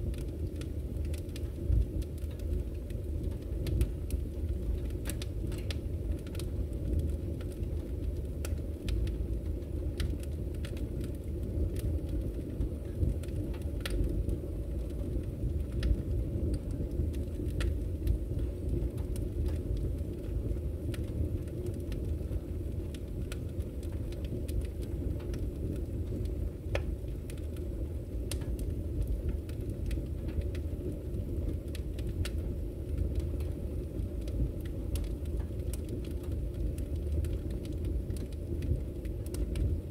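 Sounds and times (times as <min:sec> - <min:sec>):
fire crackles and pops: 0:00.0 - 0:39.9
fire flames rumbling: 0:00.0 - 0:39.9.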